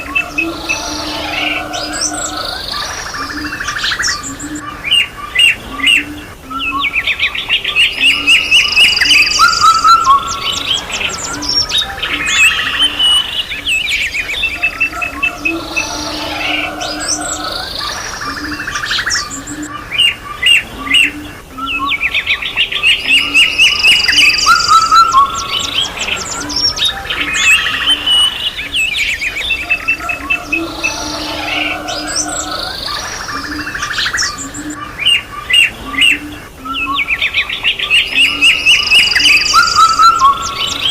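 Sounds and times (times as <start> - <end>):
birds chirping and trilling: 0.0 - 40.9
low cooing call: 0.0 - 40.9.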